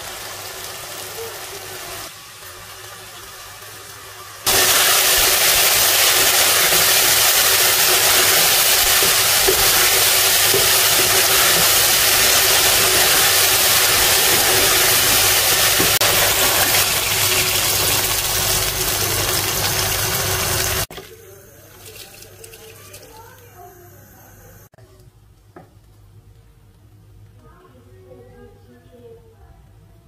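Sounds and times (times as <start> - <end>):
food frying in a pot: 0.0 - 24.7.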